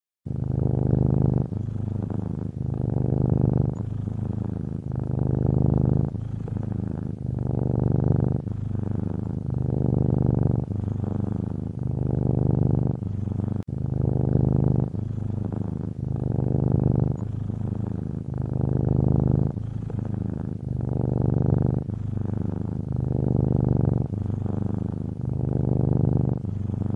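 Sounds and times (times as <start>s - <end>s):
cat purring: 0.3s - 26.9s.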